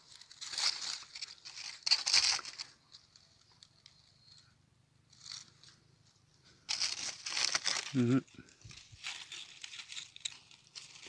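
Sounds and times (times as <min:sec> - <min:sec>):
dry leaves rustling and crunching: 0:00.0 - 0:04.4, 0:05.1 - 0:05.8, 0:06.6 - 0:11.0.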